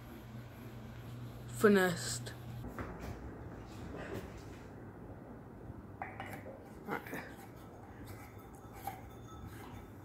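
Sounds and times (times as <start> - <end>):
ceiling fan humming: 0.0 - 10.0.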